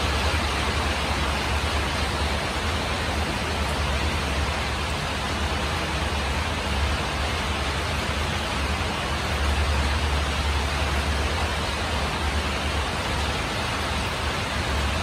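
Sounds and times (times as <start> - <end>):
rain on a tin roof: 0.0 - 15.0.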